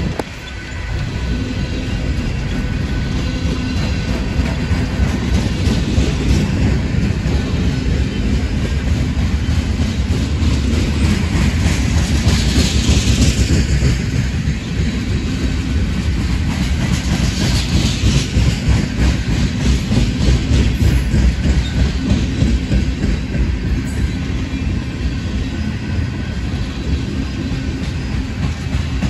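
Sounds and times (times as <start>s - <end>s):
freight train cars rumbling: 0.0s - 29.0s.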